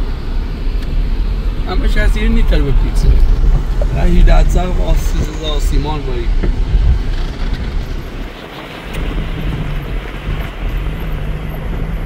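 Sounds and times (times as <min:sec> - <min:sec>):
heavy rumble: 0:00.0 - 0:12.0
road and wind noise: 0:00.0 - 0:12.0
vehicle engine hum: 0:00.0 - 0:12.0.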